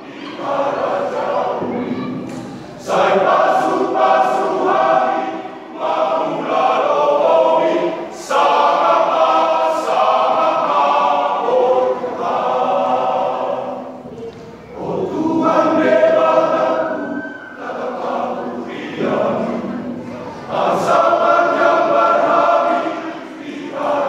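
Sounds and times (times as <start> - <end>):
men's choir singing: 0.0 - 14.1, 14.7 - 24.0.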